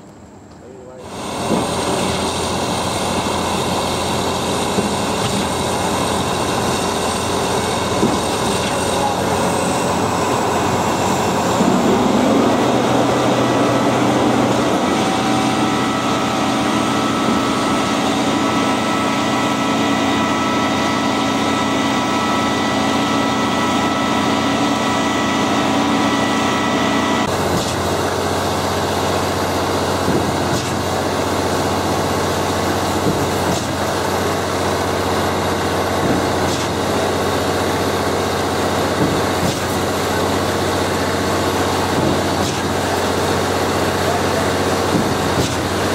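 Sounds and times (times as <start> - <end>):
heavy engine running: 0.9 - 45.9.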